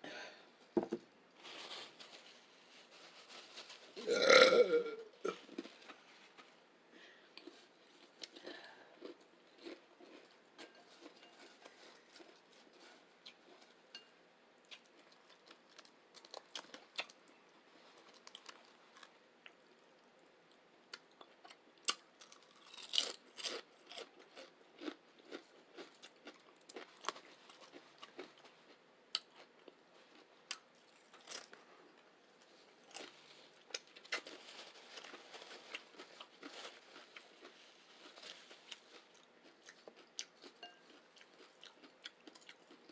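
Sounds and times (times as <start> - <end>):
crunching and chewing chips: 7.3 - 14.0, 14.6 - 42.9.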